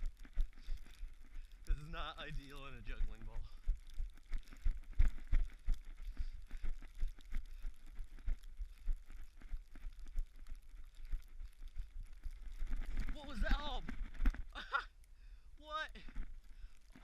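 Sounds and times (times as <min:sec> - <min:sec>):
running footsteps on snow: 0:00.0 - 0:14.6.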